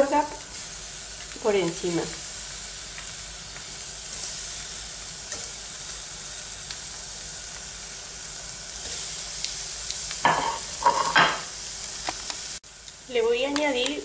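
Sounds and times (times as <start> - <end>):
prawns sizzling in a frying pan: 0.0 - 14.0.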